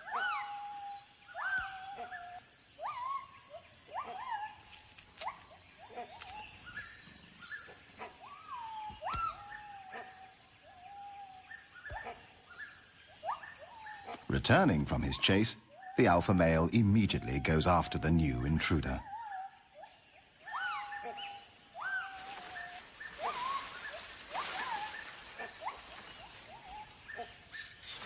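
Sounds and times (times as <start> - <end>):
gibbons whooping calls: 0.0 - 6.9, 8.0 - 16.3, 16.9 - 28.0.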